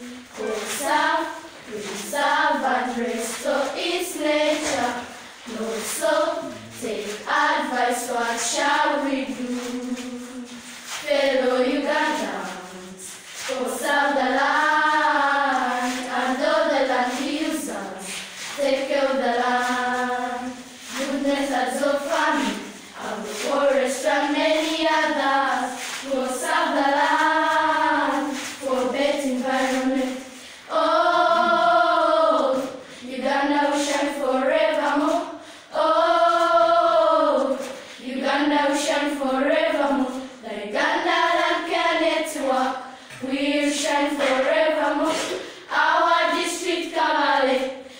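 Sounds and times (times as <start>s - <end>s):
children's choir singing: 0.0s - 47.9s.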